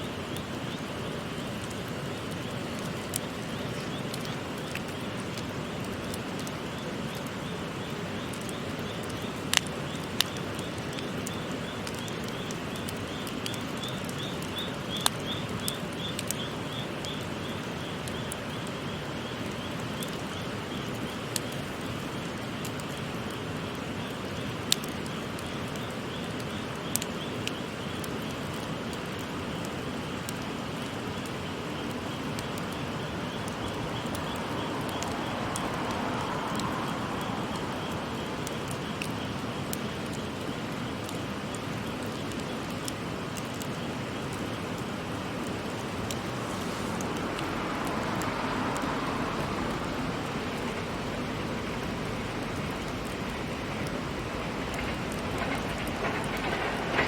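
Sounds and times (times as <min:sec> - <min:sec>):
babbling stream: 0:00.0 - 0:57.0
campfire crackling: 0:00.0 - 0:57.0
fire popping: 0:00.1 - 0:57.0.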